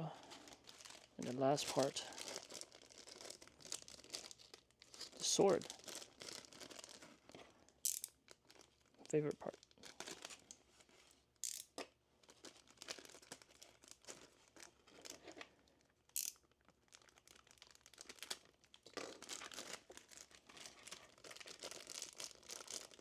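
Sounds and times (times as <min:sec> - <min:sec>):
plastic packaging crinkling: 0:00.1 - 0:11.2, 0:12.2 - 0:23.0.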